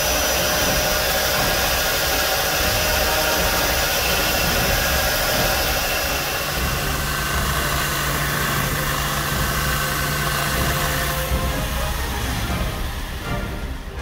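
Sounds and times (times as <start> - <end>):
belt grinder grinding steel: 0.0 - 14.0.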